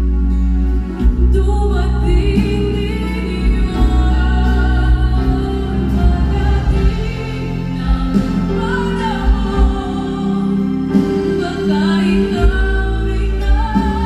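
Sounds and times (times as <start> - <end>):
live band music: 0.0 - 14.0
person singing ballad: 0.0 - 14.0.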